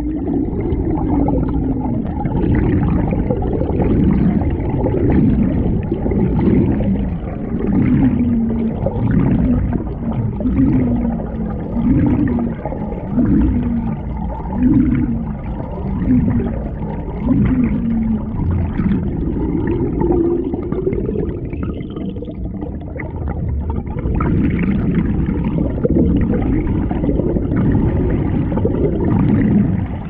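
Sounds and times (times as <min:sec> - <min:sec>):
paddle pulling through water underwater: 0:00.0 - 0:30.0.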